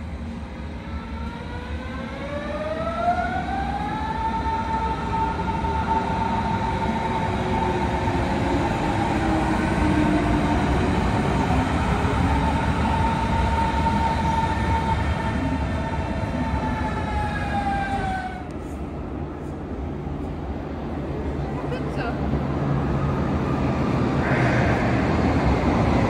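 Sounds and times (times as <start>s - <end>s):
underground station hum: 0.0s - 26.0s
train wheels rumbling: 5.1s - 26.0s.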